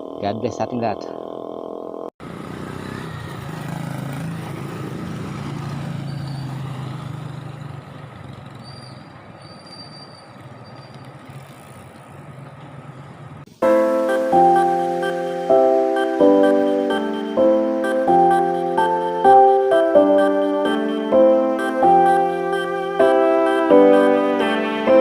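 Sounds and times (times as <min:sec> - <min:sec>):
road noise: 0:00.0 - 0:25.0
vehicle engine hum: 0:00.0 - 0:25.0.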